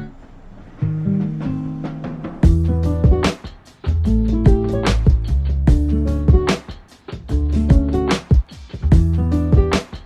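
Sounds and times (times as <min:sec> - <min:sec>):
sustained notes over a beat: 0:01.1 - 0:09.9.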